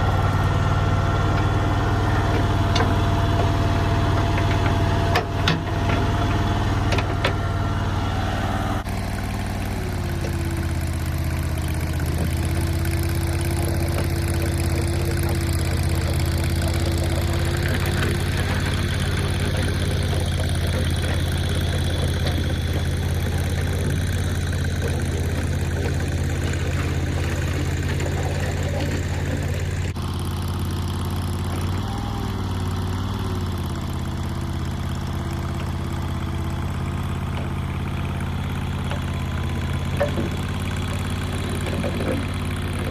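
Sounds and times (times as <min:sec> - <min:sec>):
skid steer engine running: 0:00.0 - 0:42.9.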